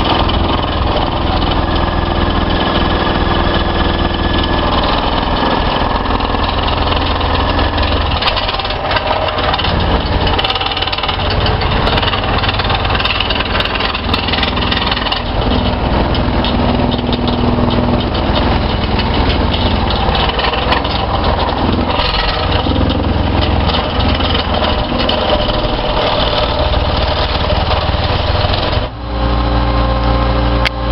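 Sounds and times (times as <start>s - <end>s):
plate compactor rattling: 0.0s - 29.4s
engine running: 0.0s - 30.9s.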